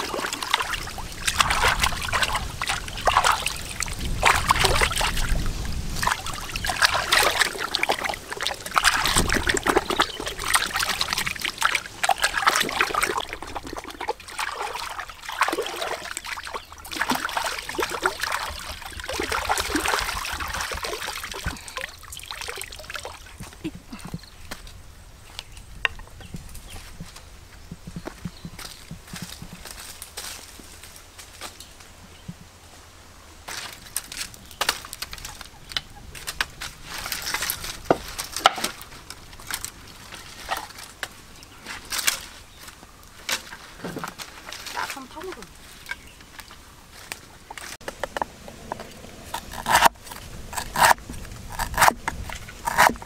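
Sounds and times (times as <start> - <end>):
water splashing and sloshing: 0.0 - 24.2, 33.4 - 53.0.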